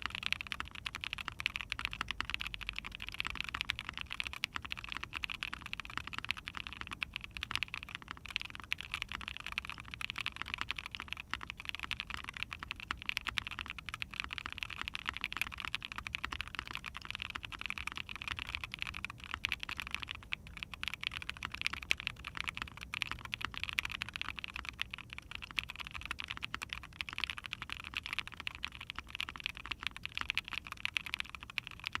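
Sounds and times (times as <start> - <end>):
fast typing on mechanical keyboard: 0.0 - 32.0.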